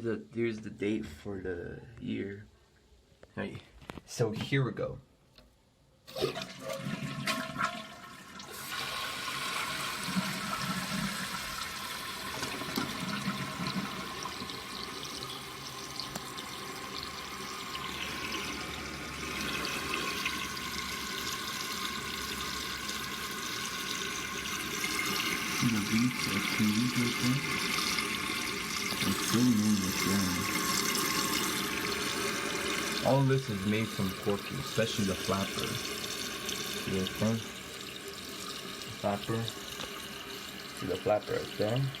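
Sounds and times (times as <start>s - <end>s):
water rushing through toilet tank: 6.1s - 42.0s.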